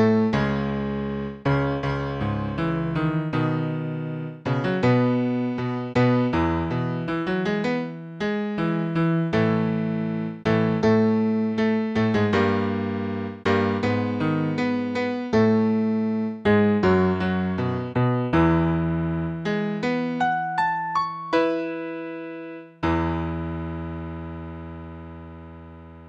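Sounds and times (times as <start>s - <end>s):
piano playing slow chords: 0.0s - 26.0s.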